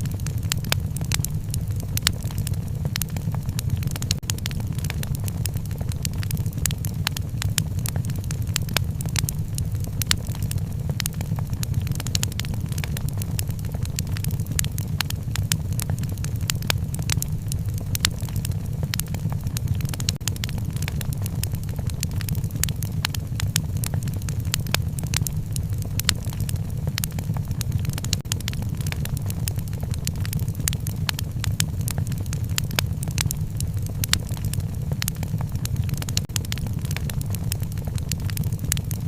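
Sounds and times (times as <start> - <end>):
low rumble of burning fire: 0.0 - 39.0
sharp pops and snaps: 0.0 - 39.0
wood fire crackling: 0.0 - 39.0.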